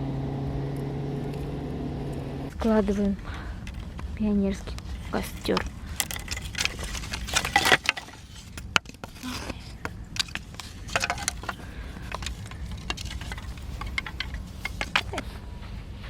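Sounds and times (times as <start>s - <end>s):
firewood knocking and clattering: 2.6s - 15.8s.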